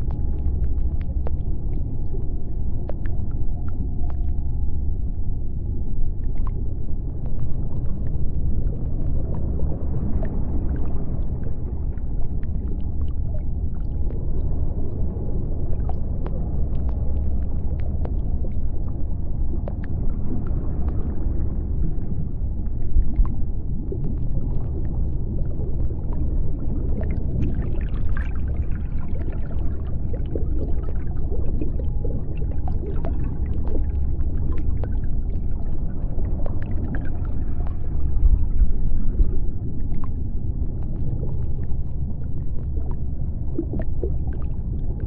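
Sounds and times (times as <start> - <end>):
deep underwater rumble: 0.0 - 45.0
faint steady hum: 0.0 - 45.0.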